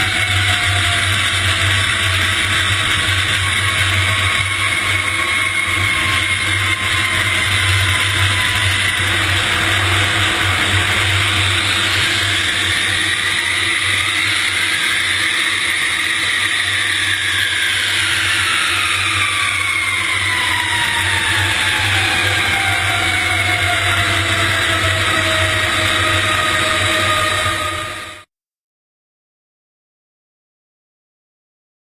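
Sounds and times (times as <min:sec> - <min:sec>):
aeroplane engines rushing: 0:00.0 - 0:28.3
whining tones gliding in pitch: 0:00.0 - 0:28.3.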